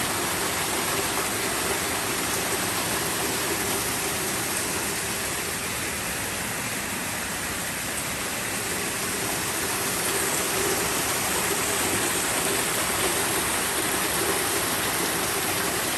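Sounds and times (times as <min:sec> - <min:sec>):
rainwater rushing: 0:00.0 - 0:15.9.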